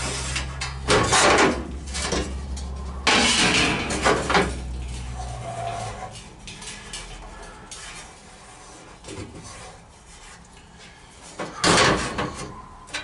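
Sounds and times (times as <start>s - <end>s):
sheet-metal scrape and rattle: 0.0s - 12.6s.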